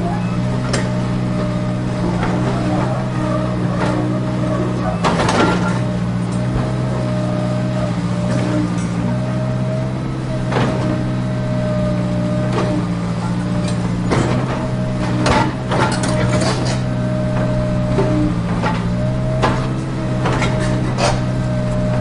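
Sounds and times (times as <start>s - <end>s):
engine-like drone: 0.0s - 22.0s.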